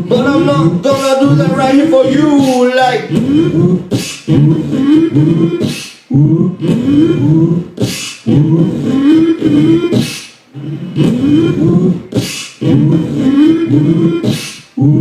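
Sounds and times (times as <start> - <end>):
hissing beatbox snare: 0.0 - 6.9, 7.7 - 14.8
hummed vocal bass line: 0.0 - 15.0.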